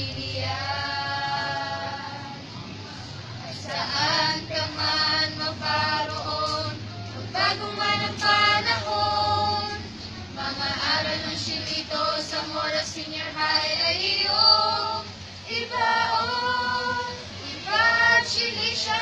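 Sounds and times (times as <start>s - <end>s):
choir singing a hymn: 0.0s - 2.8s, 3.4s - 19.0s.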